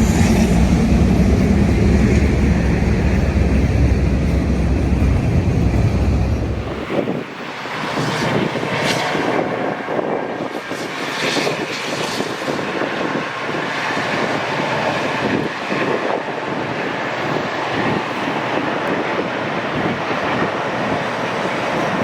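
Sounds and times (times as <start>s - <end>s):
train rolling roar: 0.0s - 22.0s
wind on microphone: 0.0s - 22.0s.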